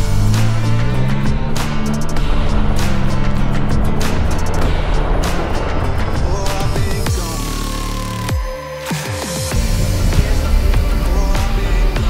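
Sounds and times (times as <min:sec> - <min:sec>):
falling bass swoops: 0:00.0 - 0:08.3, 0:09.5 - 0:12.0
electronic dance music: 0:02.2 - 0:12.0.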